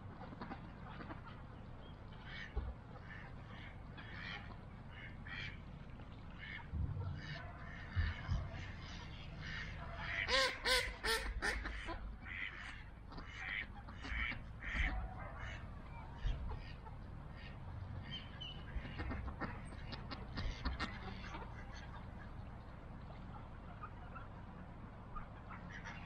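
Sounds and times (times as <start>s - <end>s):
mallards quacking: 0.0s - 26.0s.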